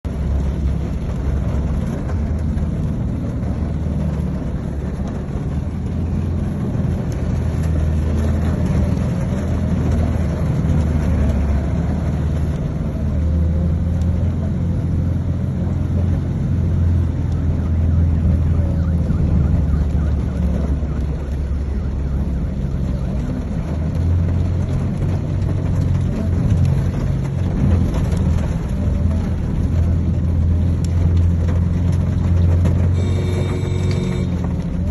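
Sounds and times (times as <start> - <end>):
vehicle engine low rumble: 0.0 - 34.9.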